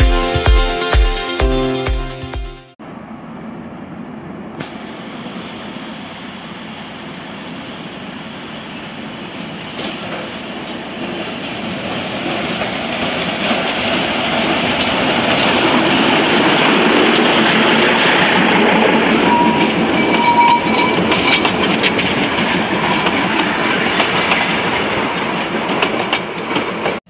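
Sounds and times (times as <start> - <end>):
train engine and wheels rumbling: 2.8 - 27.0.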